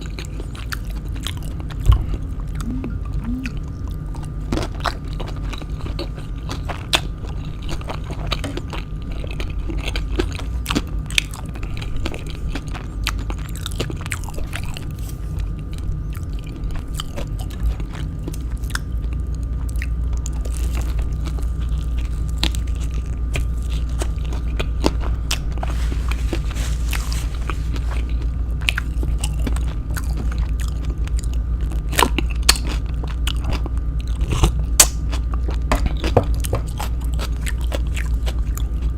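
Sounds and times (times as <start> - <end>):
crunchy chewing: 0.0 - 38.9
steady low hum: 0.0 - 38.9.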